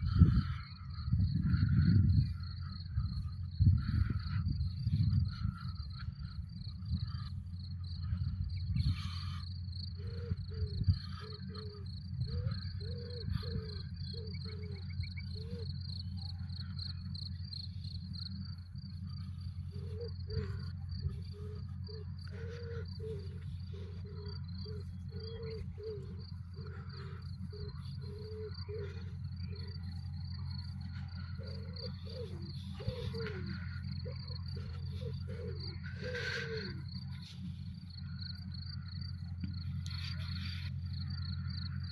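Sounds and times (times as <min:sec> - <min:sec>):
crickets trilling: 0:00.0 - 0:41.9
low hum: 0:00.0 - 0:41.9
lower repeating call: 0:00.0 - 0:41.9.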